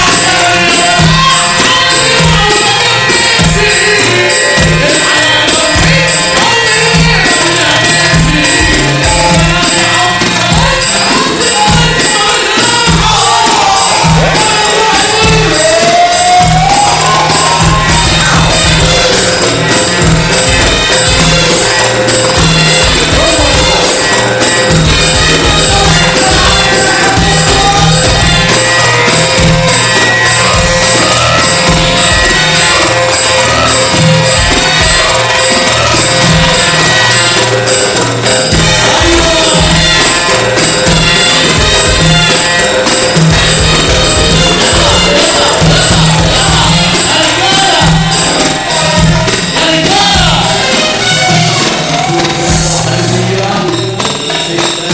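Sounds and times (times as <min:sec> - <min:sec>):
loud electronic dance music: 0:00.0 - 0:54.9.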